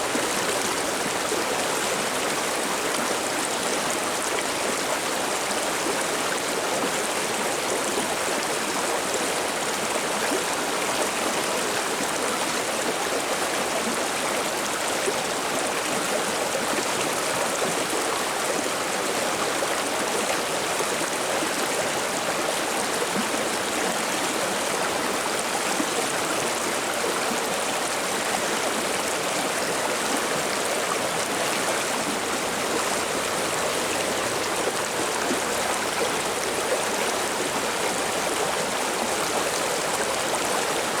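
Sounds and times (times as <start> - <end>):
river water babbling: 0.0 - 41.0.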